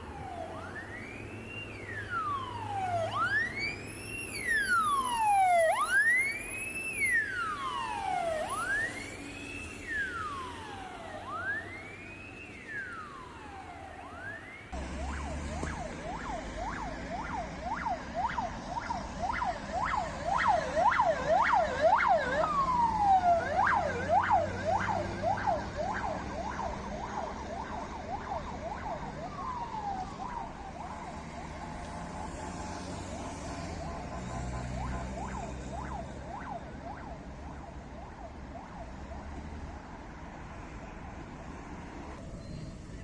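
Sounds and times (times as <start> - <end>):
police siren yelping: 0.0 - 40.4
ambulance siren wailing: 0.0 - 42.2
traffic rumble: 0.0 - 43.0.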